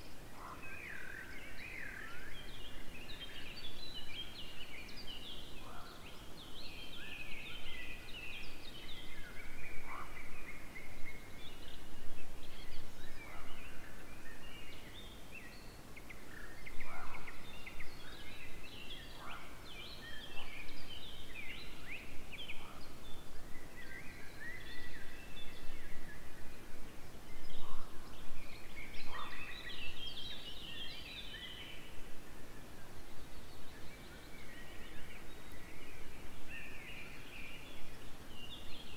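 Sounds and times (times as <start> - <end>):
birds chirping and trilling: 0.0 - 38.9
faint outdoor hiss: 0.0 - 38.9.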